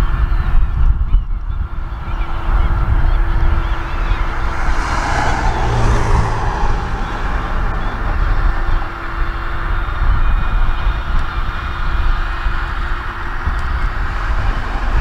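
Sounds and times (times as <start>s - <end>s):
gulls calling: 0.0s - 15.0s
tractor diesel engine running: 1.3s - 15.0s.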